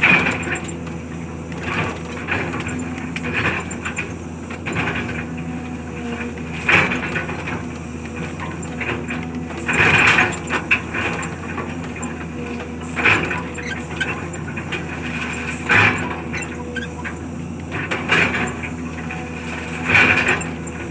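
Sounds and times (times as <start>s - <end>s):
heavy machine engine running: 0.0s - 20.9s.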